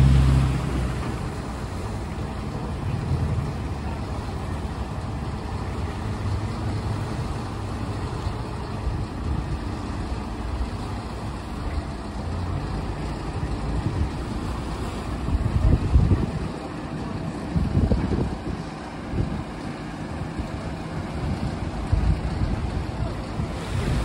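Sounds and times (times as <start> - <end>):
churning water: 0.0 - 24.0
engine rumbling: 0.0 - 24.0.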